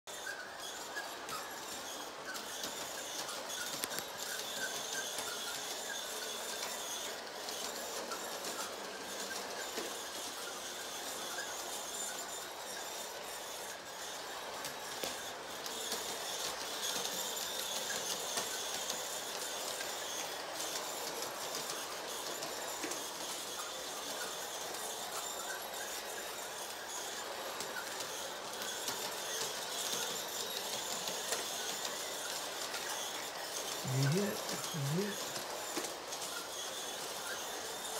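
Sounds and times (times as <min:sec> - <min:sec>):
toy train motor whirring: 0:00.1 - 0:37.9
wheels clicking on track: 0:00.1 - 0:37.9.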